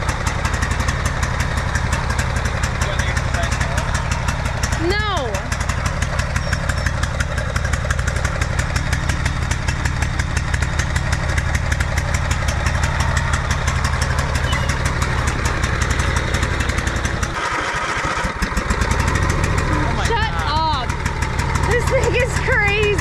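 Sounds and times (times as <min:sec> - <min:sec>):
lawnmower engine running: 0:00.0 - 0:23.0.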